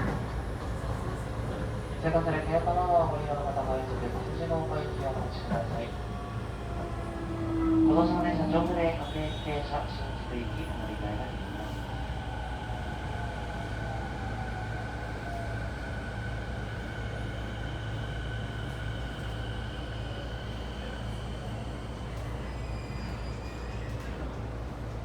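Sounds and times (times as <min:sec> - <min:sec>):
train running from inside: 0:00.0 - 0:25.0.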